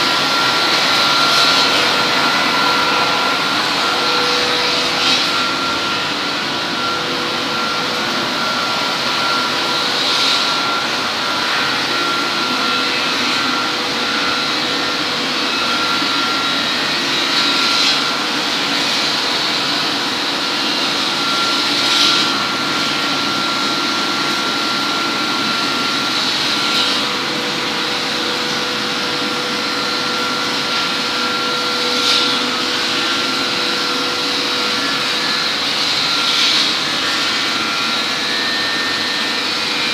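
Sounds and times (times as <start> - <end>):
woodworking machinery drone: 0.0 - 39.9.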